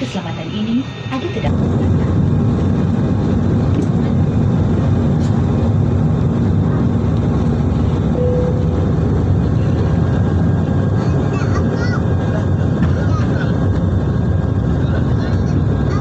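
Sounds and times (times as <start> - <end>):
jet engines at takeoff in cabin: 0.0 - 16.0.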